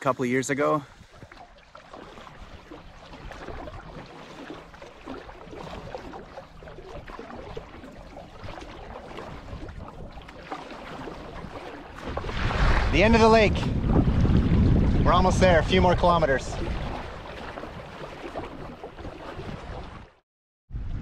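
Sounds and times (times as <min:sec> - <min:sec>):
water splashing against canoe: 0:00.0 - 0:20.2.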